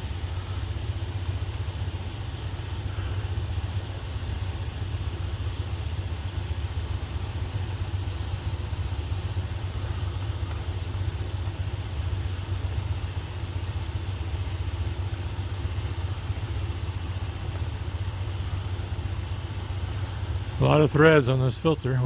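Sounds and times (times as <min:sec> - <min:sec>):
coolers roaring: 0:00.0 - 0:22.0.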